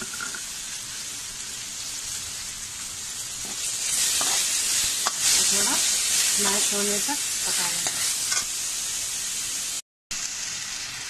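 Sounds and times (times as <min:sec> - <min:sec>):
tomato sizzling in hot oil: 0:00.0 - 0:11.0.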